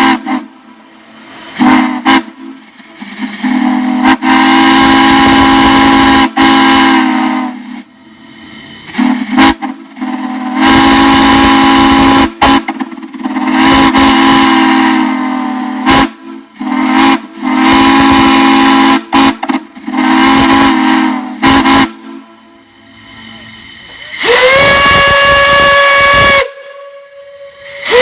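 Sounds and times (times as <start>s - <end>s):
deep steam whistle blasts: 0.0s - 28.0s
strong hiss: 0.0s - 28.0s.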